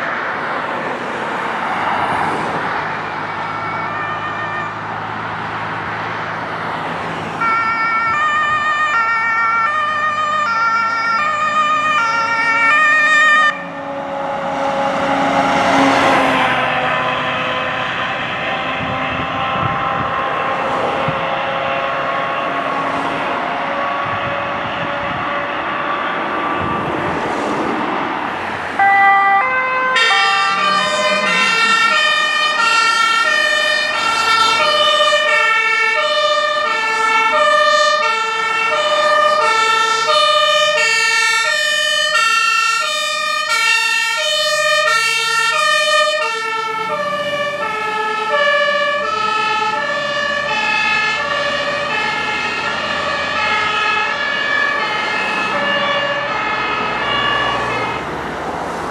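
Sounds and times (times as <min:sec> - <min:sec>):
two-tone emergency siren: 0:00.0 - 0:27.2, 0:28.7 - 0:58.9
passing vehicle noise: 0:00.0 - 0:58.9.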